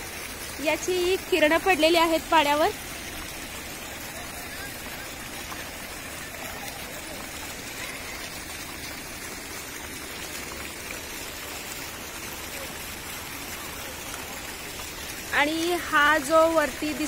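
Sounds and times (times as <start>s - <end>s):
fountain water splashing into pool: 0.0s - 17.0s.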